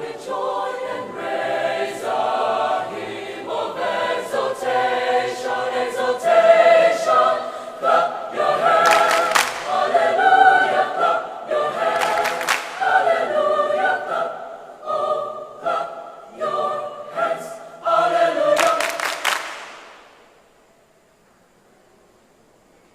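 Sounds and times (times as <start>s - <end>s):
choir singing: 0.0s - 20.2s.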